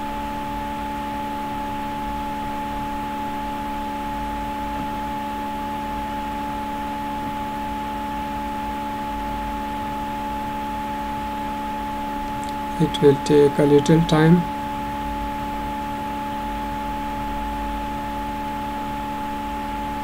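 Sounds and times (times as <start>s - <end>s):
steady background hum and hiss: 0.0s - 20.0s.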